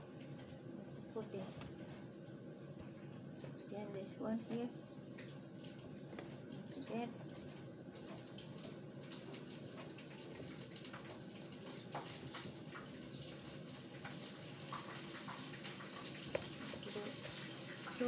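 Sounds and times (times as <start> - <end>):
kitchen tap running: 0.0 - 18.0.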